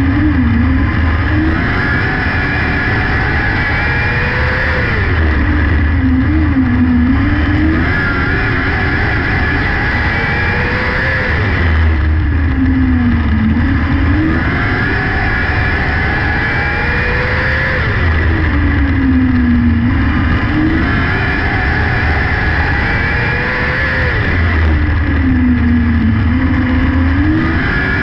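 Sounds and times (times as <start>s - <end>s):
racing car engine: 0.0s - 28.0s.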